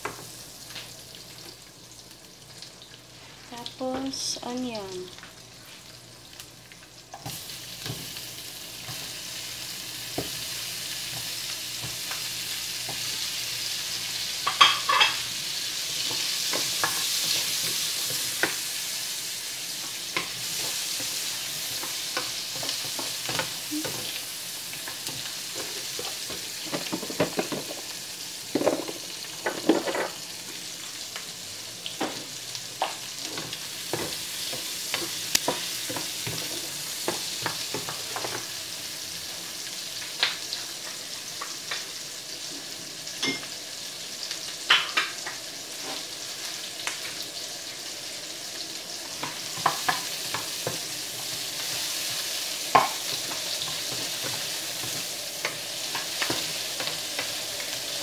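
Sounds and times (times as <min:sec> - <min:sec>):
onion sizzling in frying pan: 0:00.0 - 0:58.0.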